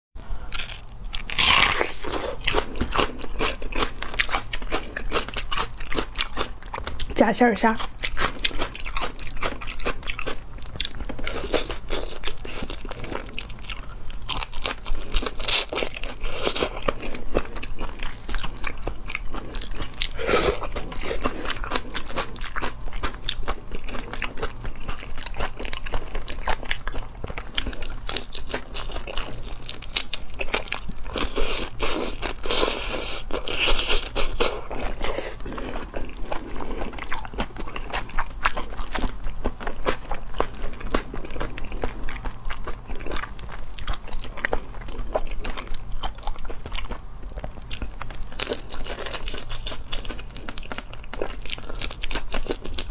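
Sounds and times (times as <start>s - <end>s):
crunching and chewing shrimp: 0.2s - 52.9s.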